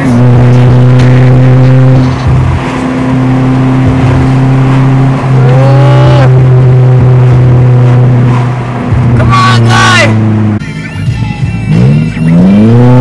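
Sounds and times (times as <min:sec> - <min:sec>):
car engine drone in cabin: 0:00.0 - 0:13.0.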